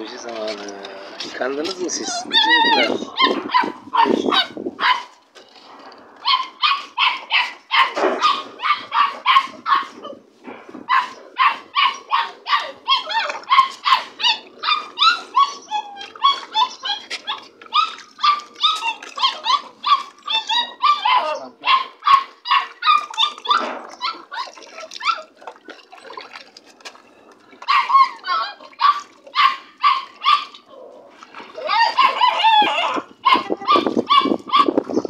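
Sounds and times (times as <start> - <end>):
puppies yelping and barking: 0.0 - 5.2, 6.1 - 35.0.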